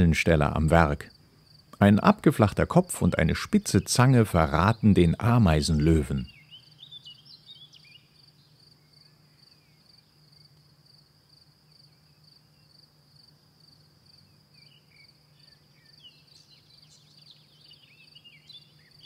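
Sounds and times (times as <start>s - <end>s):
insect chirping: 0.0s - 19.0s
faint bird chirps: 2.9s - 19.0s.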